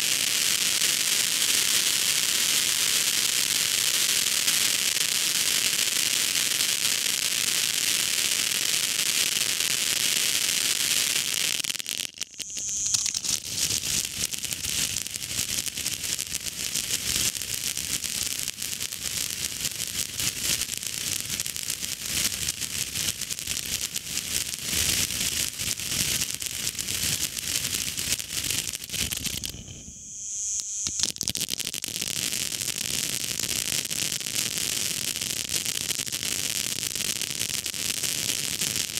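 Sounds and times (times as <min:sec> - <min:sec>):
firework crackle: 0:00.0 - 0:38.9
firework fountain hissing: 0:00.0 - 0:38.9.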